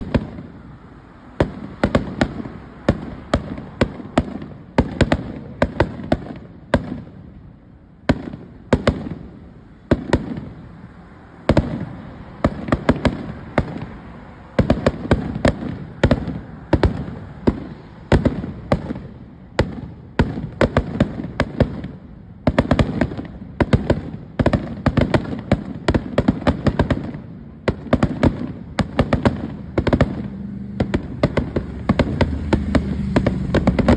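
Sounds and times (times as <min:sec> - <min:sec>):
fireworks bangs and crackles: 0:00.0 - 0:33.9.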